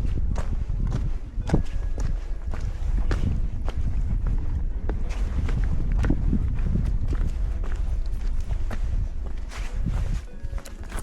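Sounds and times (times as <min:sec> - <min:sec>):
footsteps on hill path: 0:00.0 - 0:11.0
wind buffeting microphone: 0:00.0 - 0:11.0.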